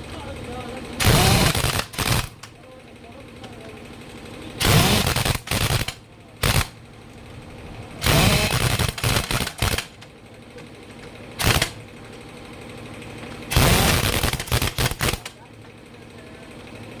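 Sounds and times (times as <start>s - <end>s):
rapid mechanical rattling: 0.0s - 17.0s.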